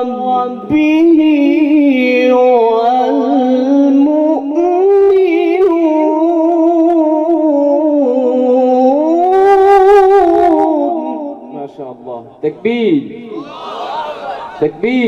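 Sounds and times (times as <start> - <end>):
man reciting melodically: 0.0 - 13.5, 14.4 - 15.0.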